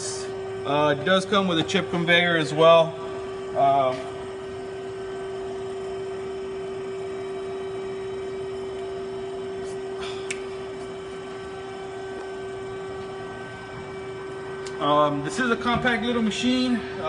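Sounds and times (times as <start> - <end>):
lathe and conveyor hum: 0.0 - 17.0.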